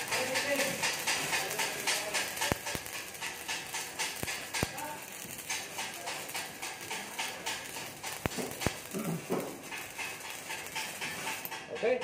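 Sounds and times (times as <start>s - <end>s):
sharp clicks: 0.0s - 12.0s
welding arc crackling: 0.0s - 12.0s.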